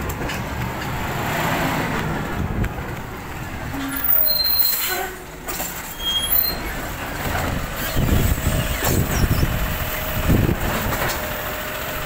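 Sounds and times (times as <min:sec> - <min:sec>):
truck engine: 0:00.0 - 0:12.0.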